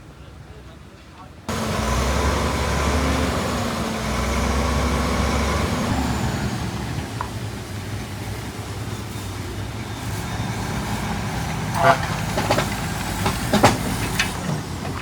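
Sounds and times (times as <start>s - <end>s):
diesel construction machinery running: 1.5s - 15.0s.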